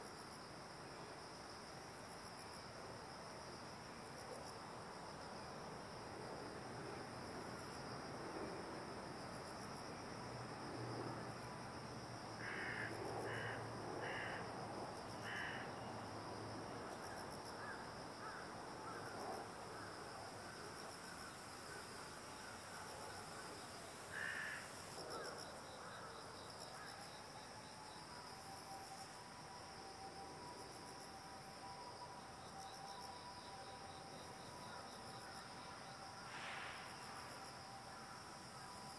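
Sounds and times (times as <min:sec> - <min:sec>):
insects chirring: 0:01.2 - 0:38.9.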